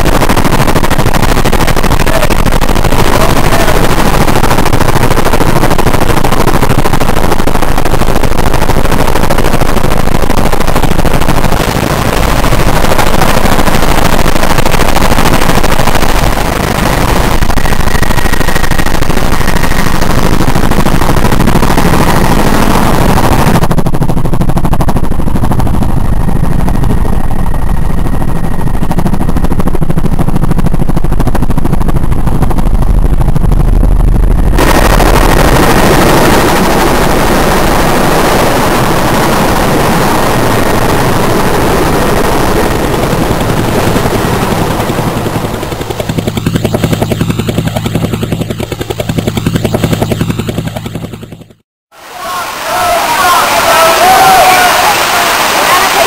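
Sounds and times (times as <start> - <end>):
helicopter rotor chopping: 0.0 - 56.0.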